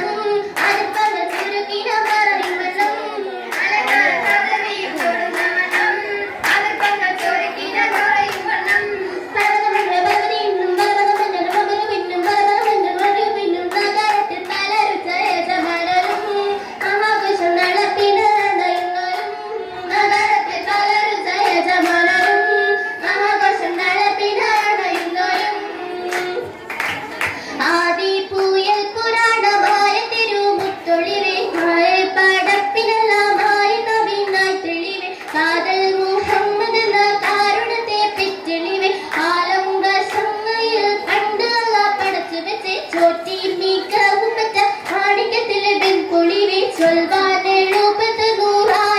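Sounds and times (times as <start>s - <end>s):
girls singing together: 0.0s - 48.9s
rhythmic hand-clapping: 0.0s - 48.9s.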